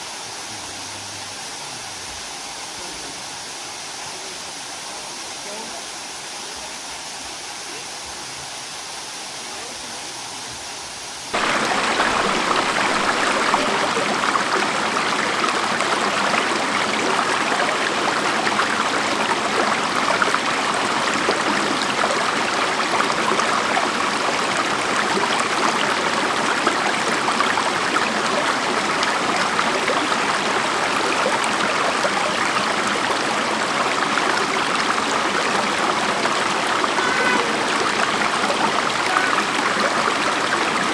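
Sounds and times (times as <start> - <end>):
rushing water of falls and creek: 0.0 - 40.9.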